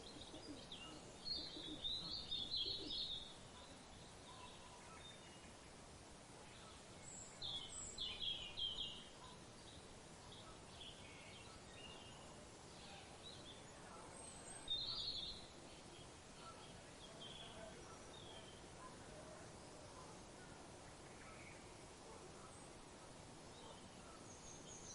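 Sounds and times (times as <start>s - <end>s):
faint outdoor background: 0.0s - 24.9s.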